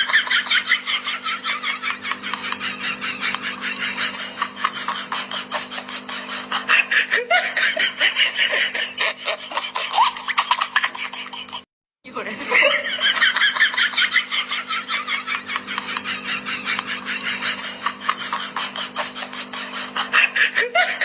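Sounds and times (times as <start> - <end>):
people laughing: 0.0 - 11.6, 12.2 - 21.0
steady low hum: 0.0 - 21.0.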